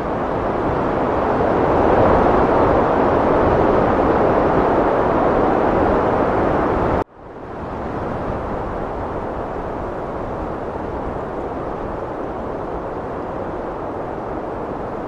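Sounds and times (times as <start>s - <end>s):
heavy wind blowing: 0.0s - 15.0s.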